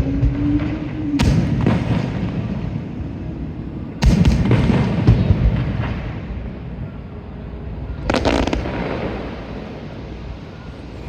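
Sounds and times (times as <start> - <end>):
fireworks bursting: 0.0 - 7.0, 7.9 - 11.0.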